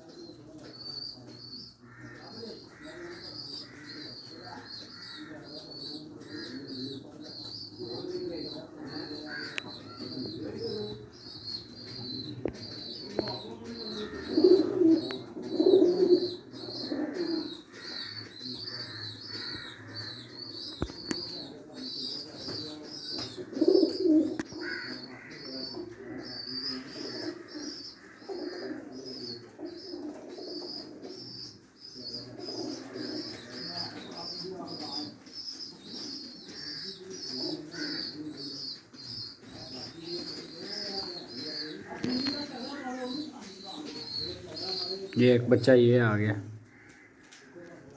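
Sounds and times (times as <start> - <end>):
pigeons cooing: 0.0 - 47.9.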